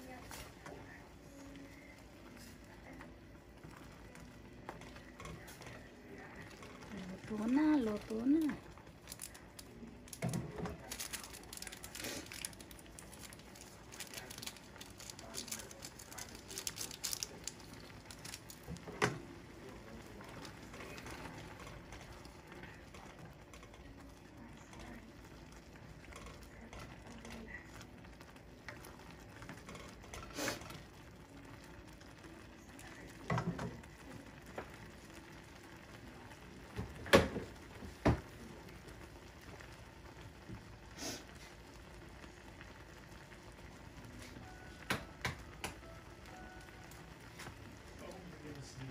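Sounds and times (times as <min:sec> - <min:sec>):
noodles bubbling in pot: 0:00.0 - 0:48.9.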